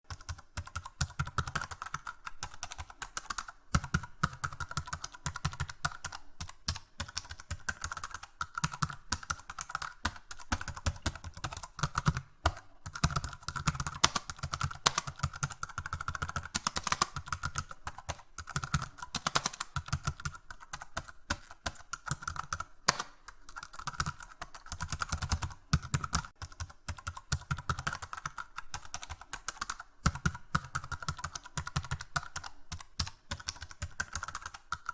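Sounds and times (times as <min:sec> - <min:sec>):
computer keyboard typing: 0:00.1 - 0:34.9.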